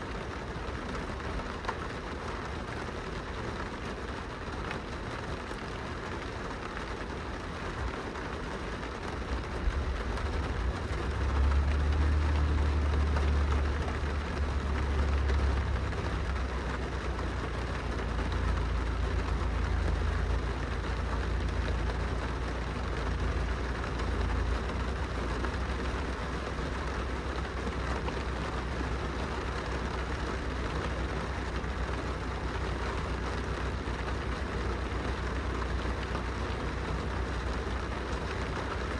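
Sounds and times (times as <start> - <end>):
rain pattering on window glass: 0.0 - 38.9.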